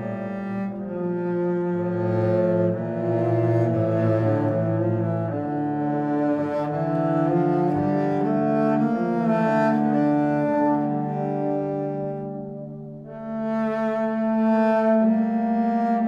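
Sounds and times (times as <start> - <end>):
low bowed string notes: 0.0 - 16.0.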